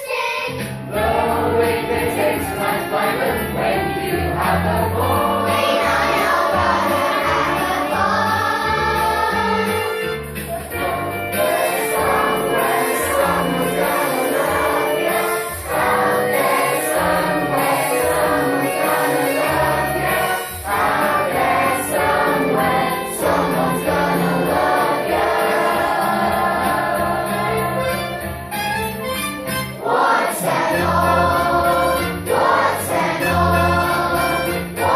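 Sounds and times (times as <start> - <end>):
chorus singing: 0.0 - 34.9
instrumental accompaniment: 0.5 - 34.9.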